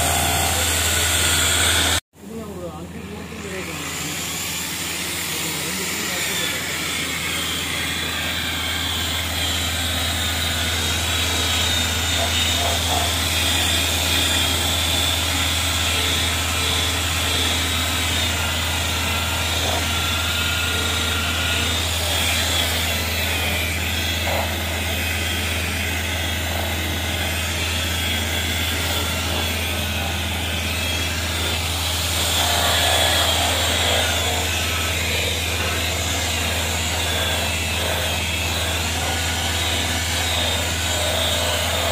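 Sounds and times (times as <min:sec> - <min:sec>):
electric polisher motor whine: 0:00.0 - 0:02.0, 0:03.0 - 0:41.9.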